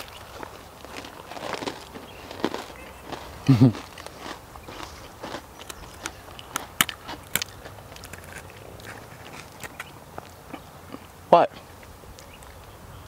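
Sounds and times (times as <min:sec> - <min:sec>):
crunchy chewing: 0:00.0 - 0:12.8.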